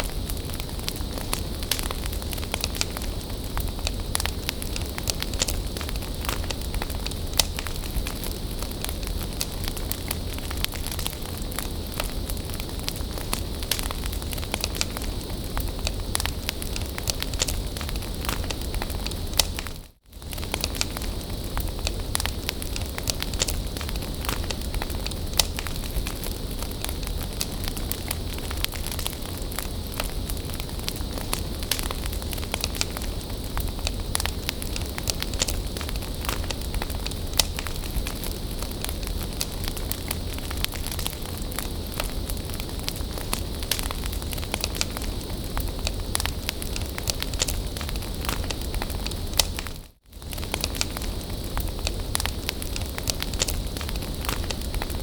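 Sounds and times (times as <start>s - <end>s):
bonfire crackling and popping: 0.0s - 55.0s
low fire rumble: 0.0s - 55.0s.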